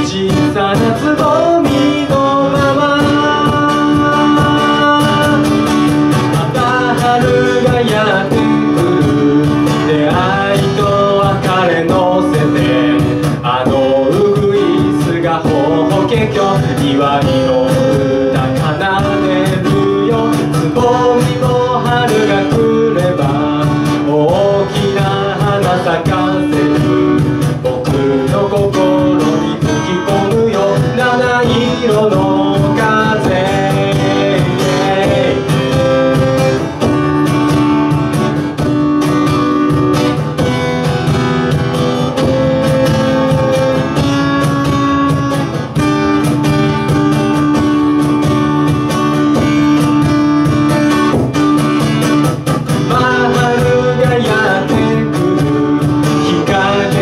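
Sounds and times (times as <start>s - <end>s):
cajon beat: 0.0s - 57.0s
strummed acoustic guitar: 0.0s - 57.0s.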